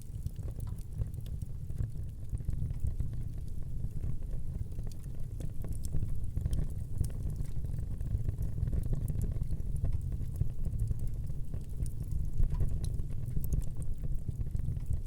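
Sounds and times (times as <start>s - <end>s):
fire flame rumble: 0.0s - 15.0s
logs crackling and popping: 0.0s - 15.0s.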